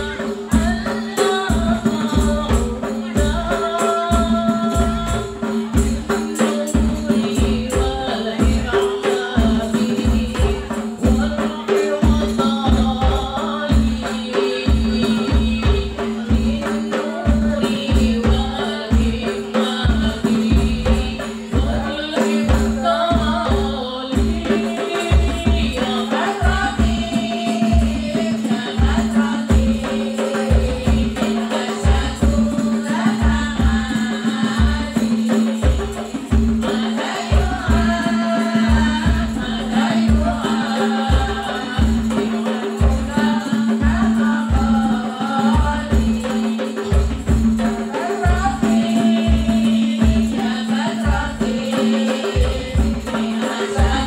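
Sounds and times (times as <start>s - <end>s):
frame drums beating: 0.0s - 54.0s
women singing through microphones: 0.0s - 54.0s.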